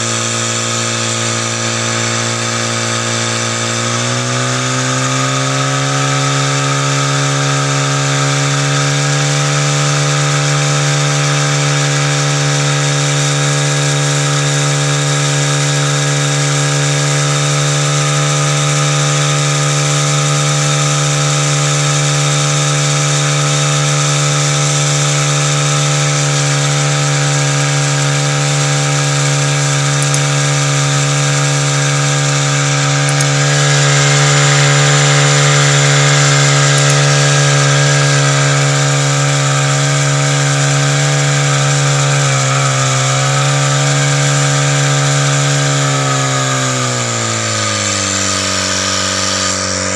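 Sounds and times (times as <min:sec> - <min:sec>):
small petrol engine running fast: 0:00.0 - 0:49.9.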